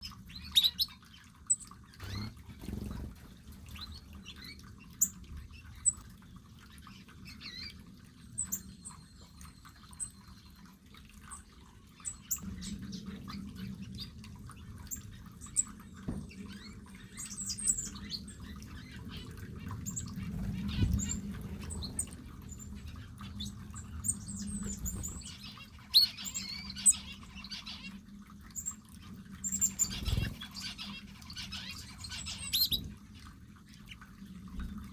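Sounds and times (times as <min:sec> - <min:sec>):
small birds chirping: 0:00.0 - 0:10.6, 0:11.2 - 0:34.7
faint low hum: 0:01.8 - 0:34.9.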